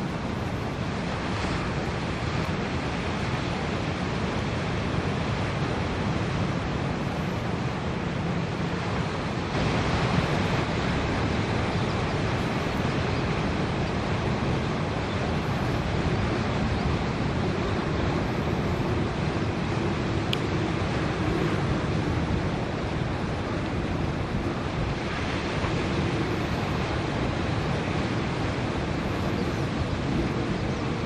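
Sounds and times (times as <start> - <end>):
water rushing: 0.0 - 31.0.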